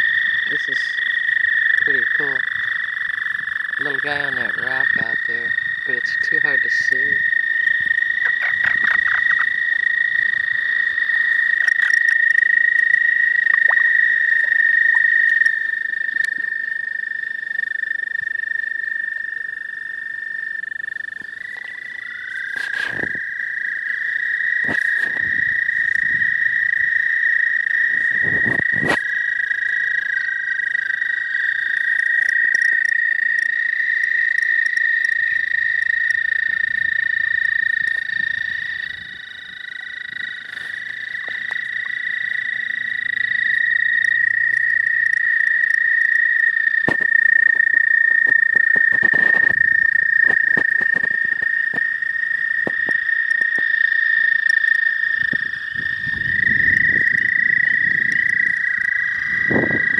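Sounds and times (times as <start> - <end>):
toads trilling: 0.0 - 59.9.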